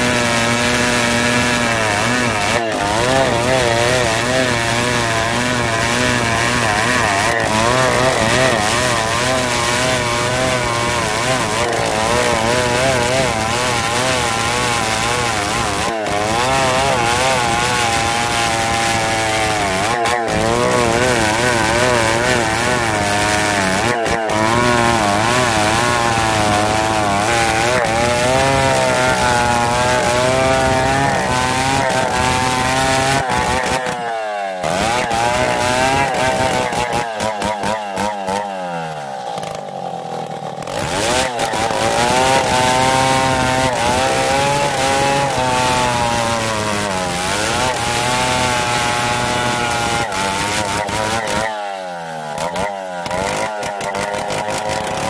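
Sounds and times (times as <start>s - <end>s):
chainsaw cutting a log: 0.0s - 55.0s.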